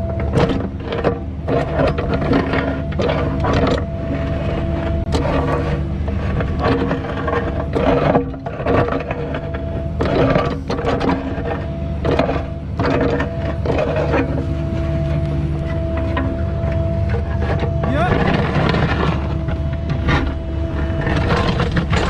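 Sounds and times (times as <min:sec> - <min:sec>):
diesel machine engine running: 0:00.0 - 0:22.0
metal scraping on dirt or stone: 0:00.0 - 0:22.0.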